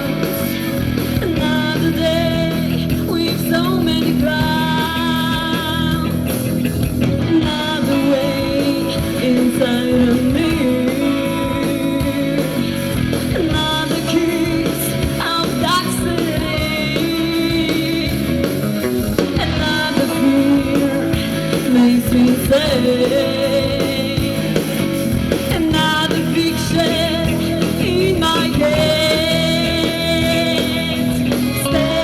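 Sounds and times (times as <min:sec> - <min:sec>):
rock band guitars: 0:00.0 - 0:32.0.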